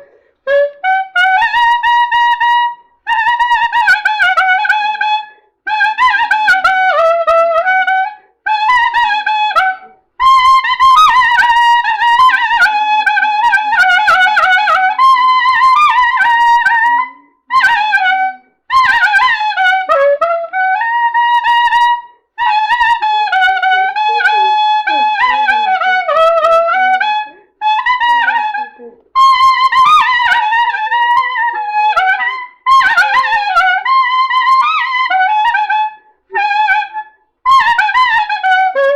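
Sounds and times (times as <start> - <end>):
clarinet melody: 0.0 - 38.9.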